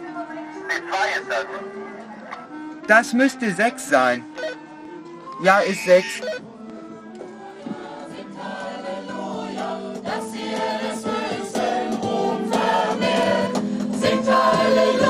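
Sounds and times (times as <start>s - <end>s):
choir and instruments playing hymn: 0.6s - 15.0s.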